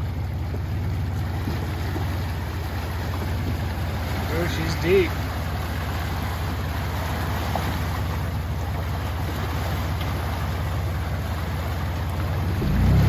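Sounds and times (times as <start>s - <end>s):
off-road vehicle engine running: 0.0s - 13.0s
water rushing: 0.0s - 13.0s.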